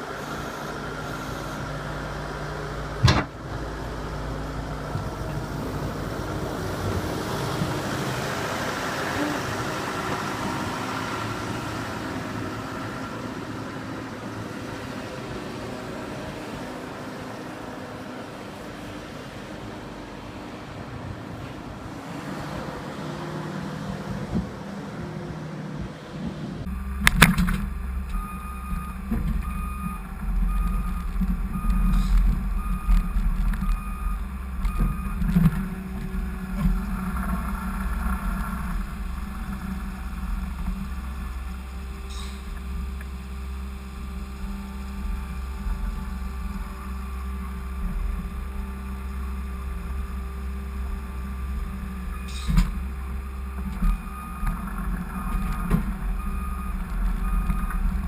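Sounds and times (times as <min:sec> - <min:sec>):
skid steer engine rumbling: 0:00.0 - 0:58.0.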